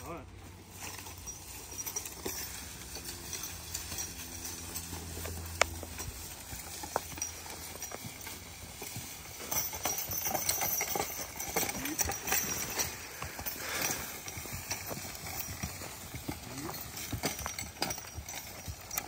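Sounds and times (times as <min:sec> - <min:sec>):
hooves thudding on dirt: 0:00.0 - 0:19.0
sharp metallic clink: 0:00.8 - 0:19.0.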